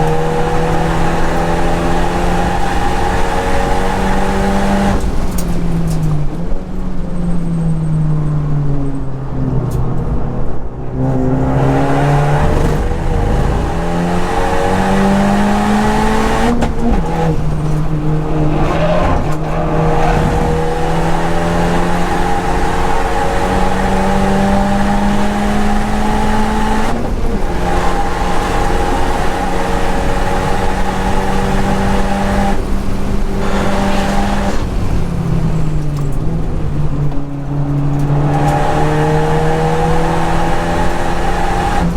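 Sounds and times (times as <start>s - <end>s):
car engine at full throttle: 0.0s - 41.9s.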